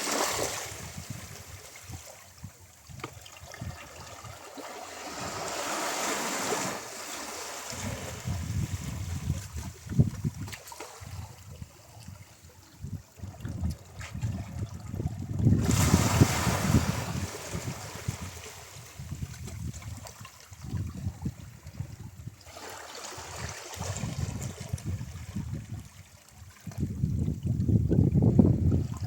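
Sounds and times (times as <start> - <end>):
waves breaking and washing up: 0.0 - 12.8, 14.0 - 26.1.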